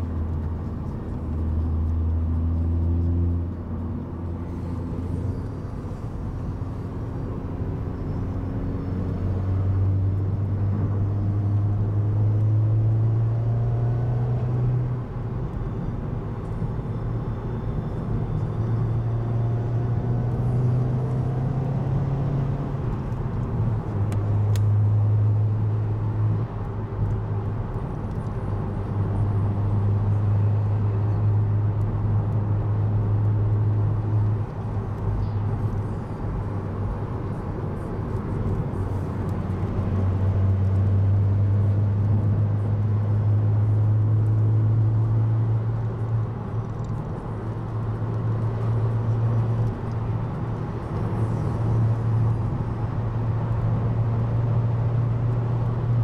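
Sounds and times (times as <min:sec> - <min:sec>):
car engine drone: 0:00.0 - 0:56.0
road rumble: 0:00.0 - 0:56.0.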